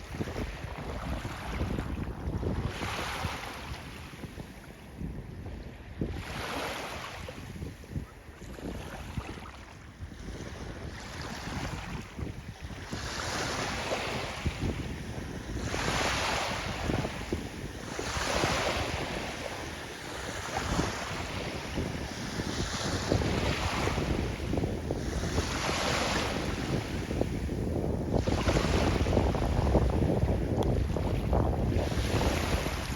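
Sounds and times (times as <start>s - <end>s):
sea water rushing and splashing: 0.0s - 4.6s, 8.0s - 32.9s
wind buffeting microphone: 0.0s - 32.9s.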